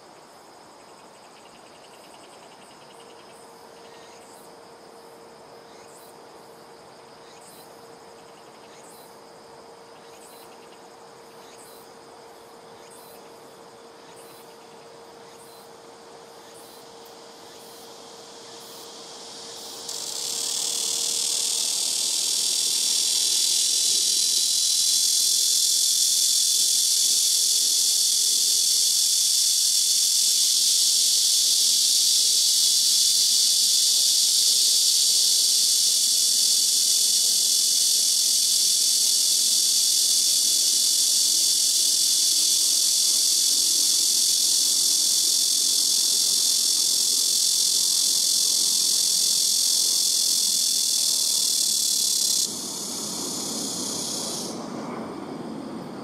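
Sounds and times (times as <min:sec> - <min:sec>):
cicada shrill buzz: 0:00.0 - 0:55.3.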